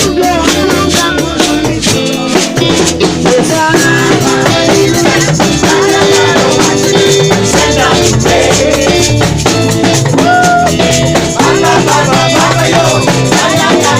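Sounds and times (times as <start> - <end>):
reggae band playing: 0.0 - 13.9.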